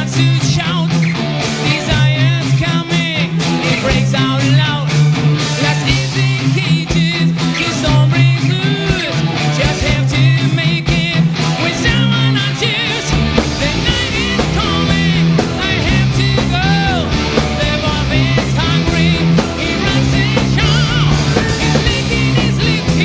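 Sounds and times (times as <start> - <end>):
person singing: 0.0 - 23.0
rock band playing: 0.0 - 23.0.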